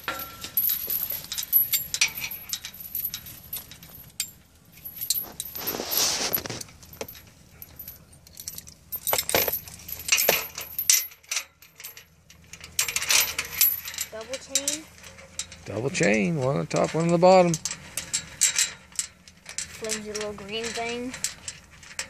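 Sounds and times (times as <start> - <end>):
chain jingling and clinking: 0.0 - 22.0.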